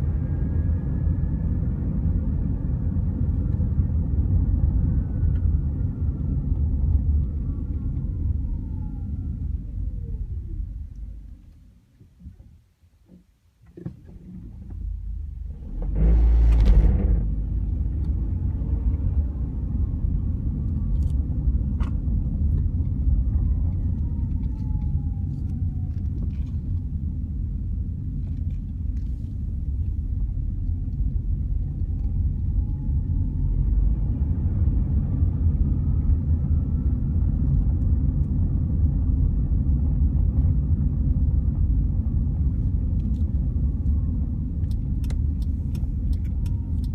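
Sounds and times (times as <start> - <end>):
car engine low rumble: 0.0 - 46.9.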